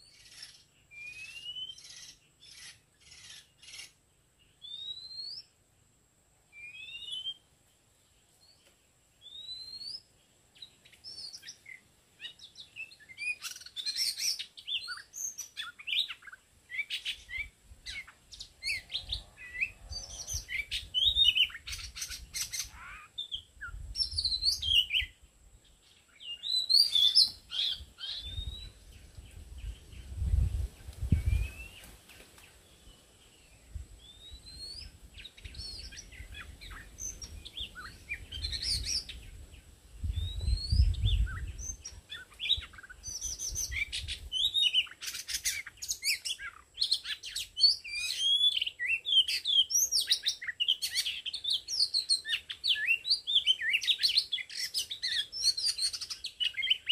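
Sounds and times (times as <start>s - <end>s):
birds singing and chirping: 0.0s - 5.9s, 6.5s - 56.9s.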